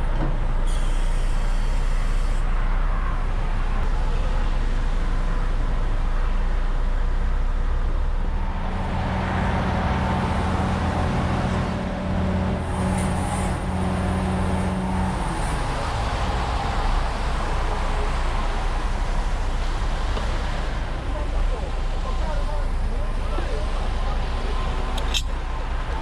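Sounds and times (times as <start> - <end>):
heavy vehicle engine hum: 0.0 - 26.0
road traffic noise: 0.0 - 26.0.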